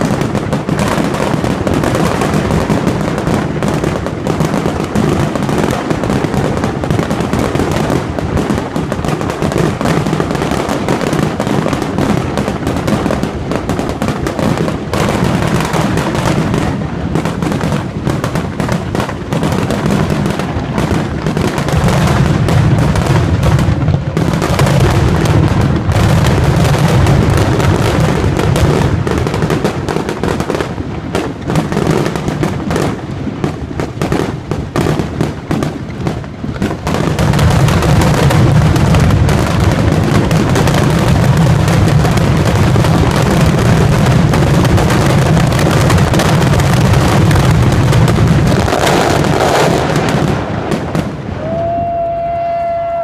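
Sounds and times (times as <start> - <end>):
fireworks booms and crackles: 0.0 - 53.0.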